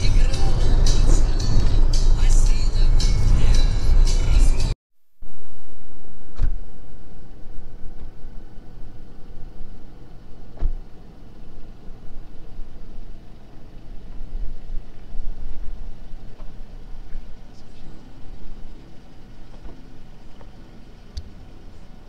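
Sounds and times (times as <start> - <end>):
vehicle engine and road rumble: 0.0 - 4.8, 6.4 - 22.0.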